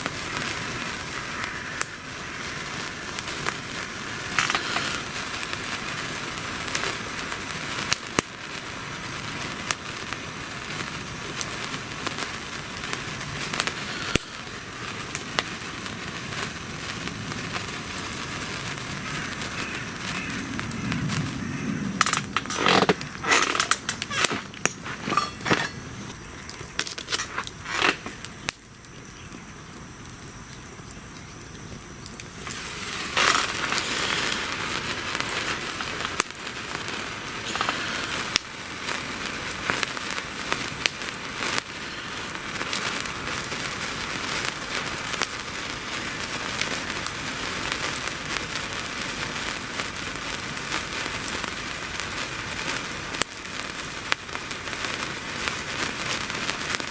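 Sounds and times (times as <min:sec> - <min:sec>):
sharp pops of fire: 0:00.0 - 0:56.9
wood fire crackling: 0:00.0 - 0:56.9.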